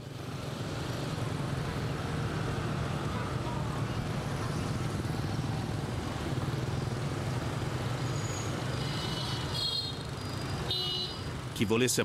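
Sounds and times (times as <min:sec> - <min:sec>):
motorbike and scooter traffic: 0:00.0 - 0:12.0.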